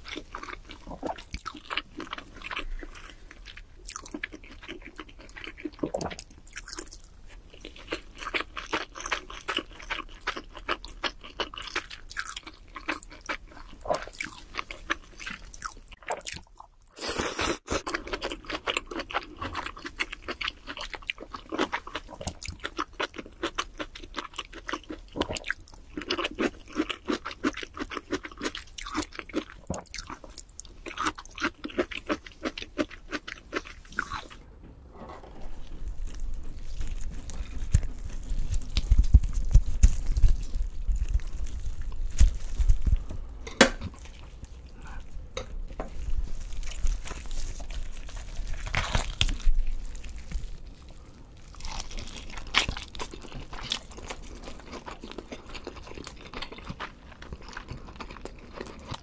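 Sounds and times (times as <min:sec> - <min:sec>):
person chewing with mouth clicks: 0:00.0 - 0:34.4, 0:36.1 - 0:43.2, 0:46.5 - 0:59.0.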